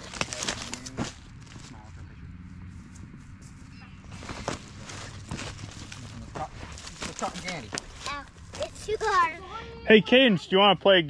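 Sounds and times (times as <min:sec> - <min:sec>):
footsteps crunching on stubble: 0:00.0 - 0:09.4.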